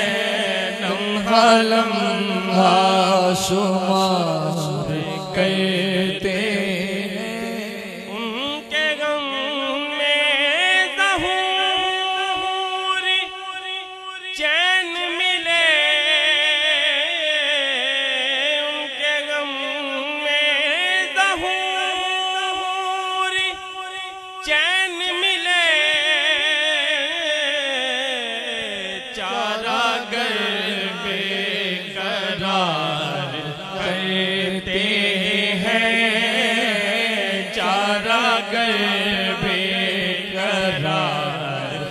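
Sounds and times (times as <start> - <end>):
man singing through a microphone: 0.0 - 41.9.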